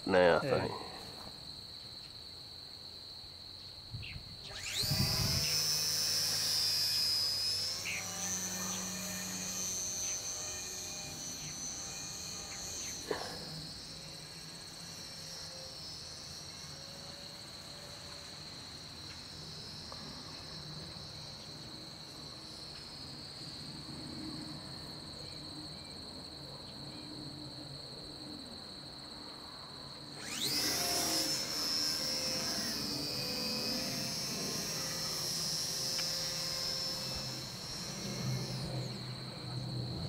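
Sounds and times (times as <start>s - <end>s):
high insect trill: 0.0s - 40.0s
rc plane motor whining: 3.3s - 40.0s.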